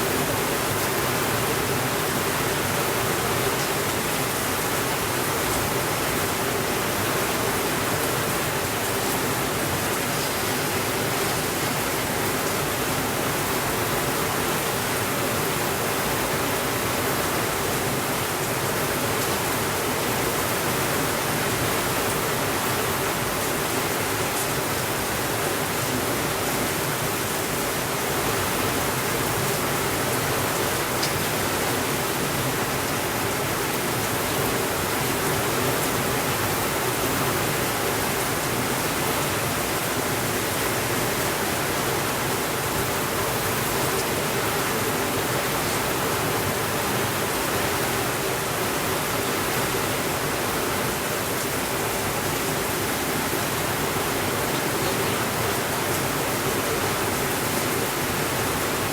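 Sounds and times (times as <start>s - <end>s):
heavy rain on a window: 0.0s - 58.9s.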